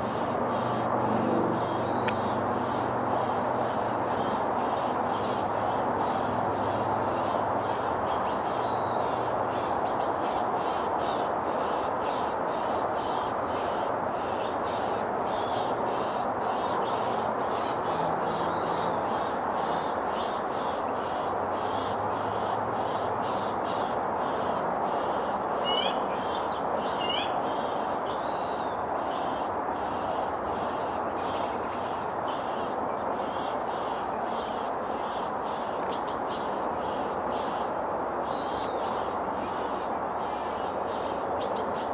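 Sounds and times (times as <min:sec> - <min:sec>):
birds chirping and calling: 0:00.0 - 0:41.9
steady rushing noise: 0:00.0 - 0:41.9.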